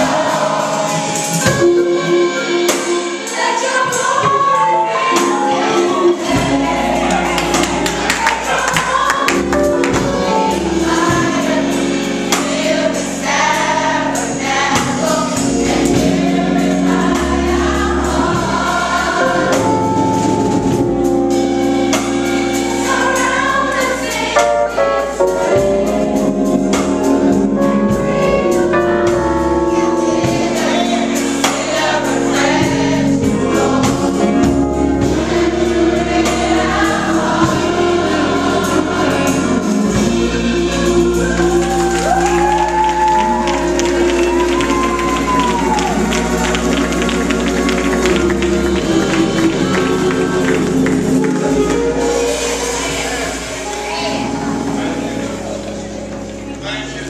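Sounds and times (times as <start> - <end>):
drums and cymbals: 0.0 - 56.0
choir singing: 0.0 - 57.0
live band playing: 0.0 - 57.0.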